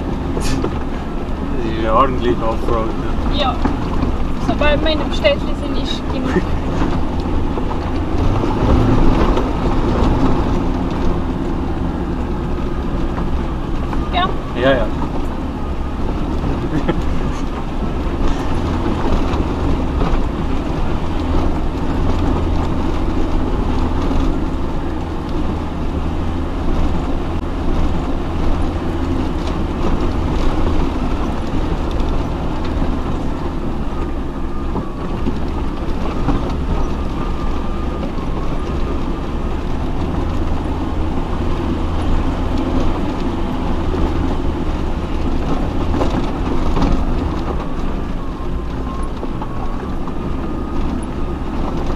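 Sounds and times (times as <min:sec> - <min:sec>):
off-road vehicle engine: 0:00.0 - 0:51.9
vehicle rattling over rocks: 0:00.0 - 0:51.9.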